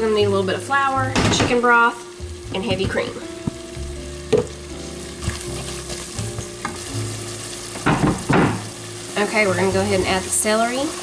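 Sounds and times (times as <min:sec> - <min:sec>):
vegetables sizzling in butter: 0:00.0 - 0:11.0.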